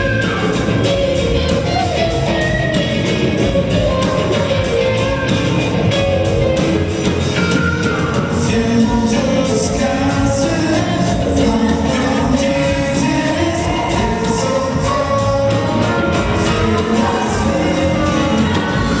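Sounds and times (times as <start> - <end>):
bass guitar: 0.0 - 19.0
drums with steady beat: 0.0 - 19.0
electric guitar: 0.0 - 19.0
person singing: 0.0 - 19.0.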